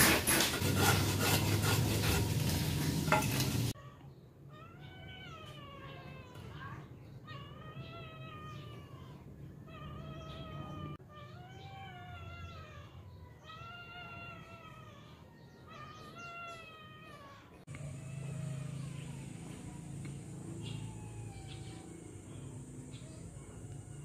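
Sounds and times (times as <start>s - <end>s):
cat meowing: 3.7s - 19.6s, 20.5s - 24.0s.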